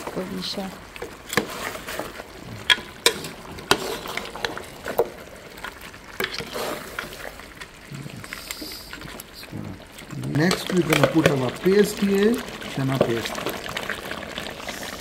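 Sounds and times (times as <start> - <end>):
meat sizzling: 0.0 - 15.0.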